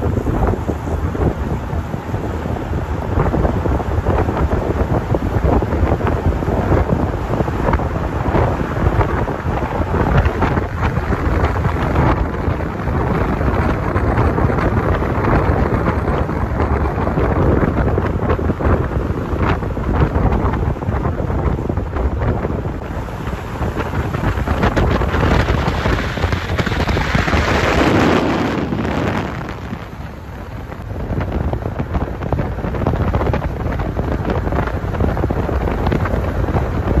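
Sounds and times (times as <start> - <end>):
car engine and tyre noise: 0.0 - 37.0
wind buffeting microphone: 0.0 - 37.0.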